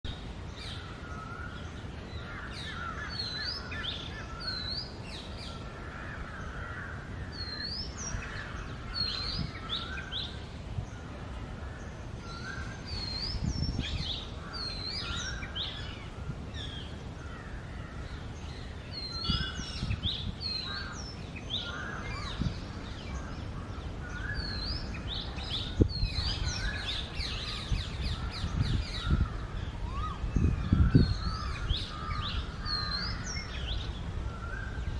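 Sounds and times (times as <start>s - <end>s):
bird singing: 0.1s - 34.9s.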